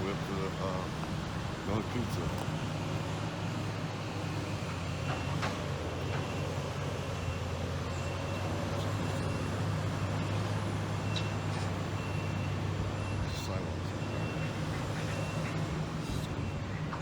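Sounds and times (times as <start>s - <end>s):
road noise: 0.0s - 17.0s
vehicle engine drone: 0.0s - 17.0s.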